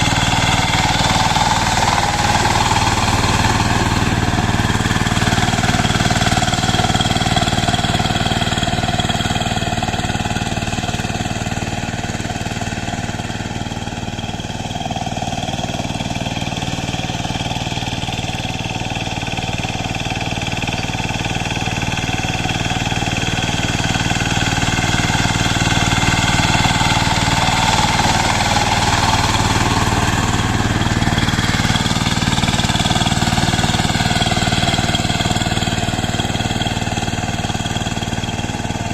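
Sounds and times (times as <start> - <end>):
power tiller engine running: 0.0 - 38.9.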